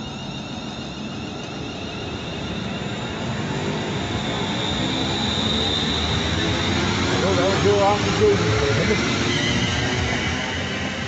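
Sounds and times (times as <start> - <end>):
electric train motors whining: 0.0 - 11.0.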